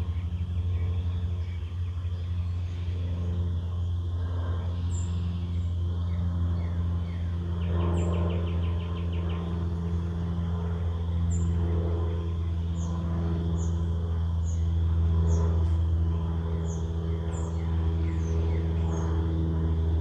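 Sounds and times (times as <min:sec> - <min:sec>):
songbird trill: 0:00.0 - 0:20.0
steady low drone: 0:00.0 - 0:20.0.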